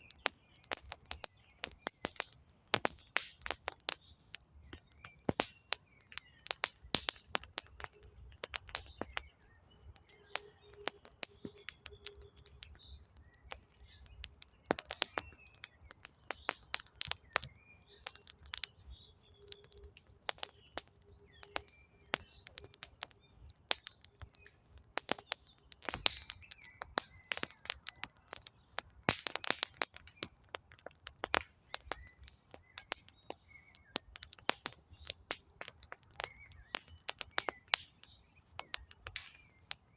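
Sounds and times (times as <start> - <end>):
campfire crackling and popping: 0.0 - 39.9
faint birdsong: 0.0 - 39.9.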